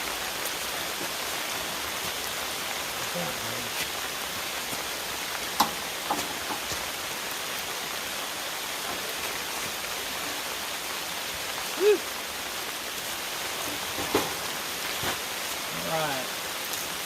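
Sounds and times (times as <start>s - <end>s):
heavy rain falling: 0.0s - 17.0s
loud single raindrops: 0.0s - 17.0s.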